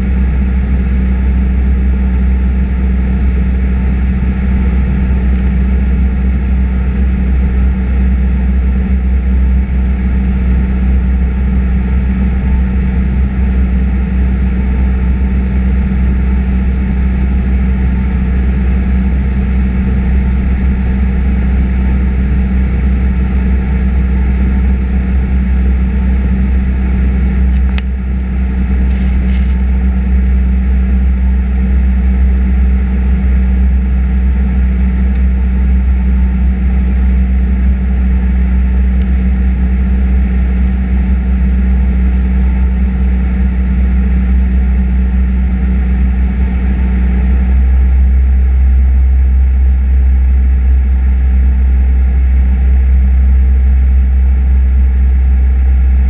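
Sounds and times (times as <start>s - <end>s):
propeller airplane engine droning: 0.0s - 56.0s.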